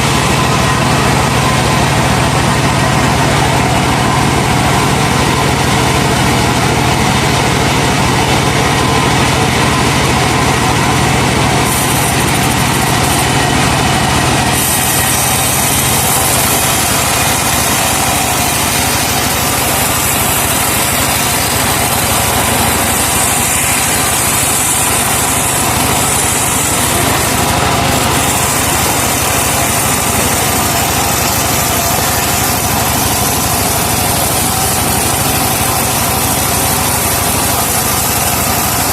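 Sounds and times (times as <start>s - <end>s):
engine-powered wood saw running: 0.0s - 38.9s.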